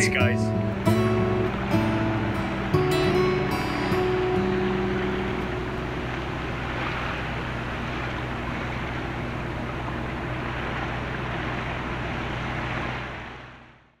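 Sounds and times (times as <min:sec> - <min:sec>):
boat motor running: 0:00.0 - 0:14.0
water noise: 0:00.0 - 0:14.0
wind: 0:00.0 - 0:14.0.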